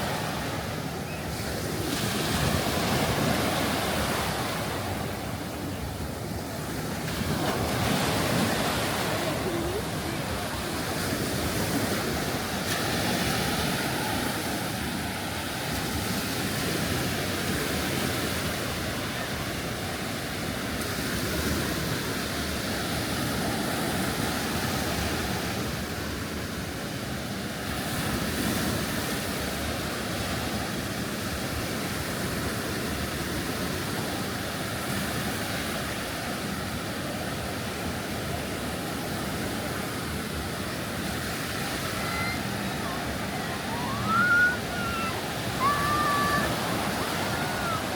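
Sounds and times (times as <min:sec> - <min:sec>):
surf washing onto a beach: 0:00.0 - 0:47.9.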